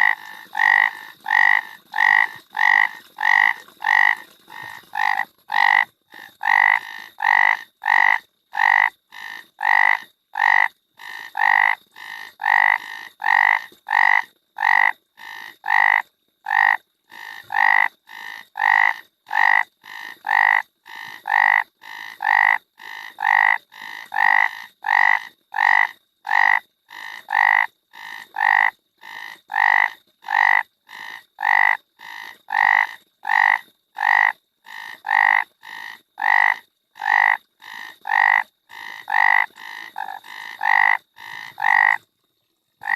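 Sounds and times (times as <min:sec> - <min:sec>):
frog croaking: 0:00.0 - 0:42.0.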